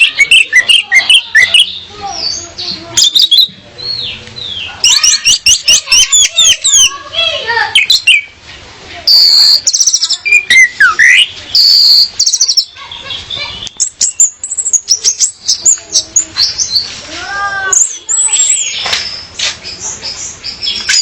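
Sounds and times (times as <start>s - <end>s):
thrush chattering and trilling: 0.0s - 21.0s.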